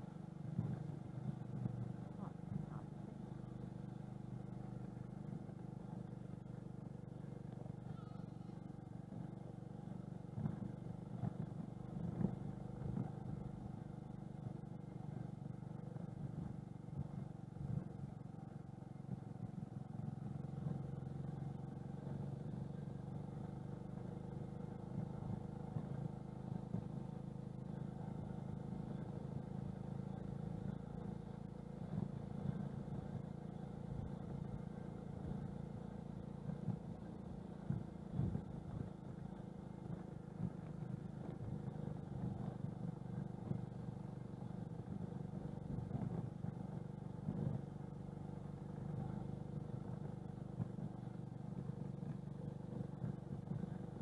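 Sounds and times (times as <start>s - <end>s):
moped engine running: 0.0s - 54.0s.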